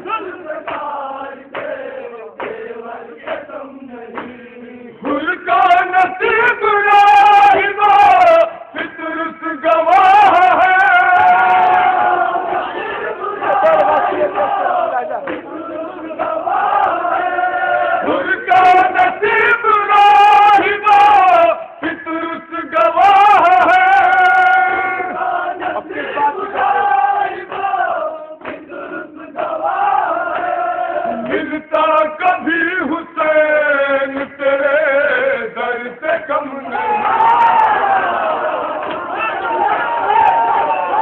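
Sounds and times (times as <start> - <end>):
men chanting a lament: 0.0 - 41.0.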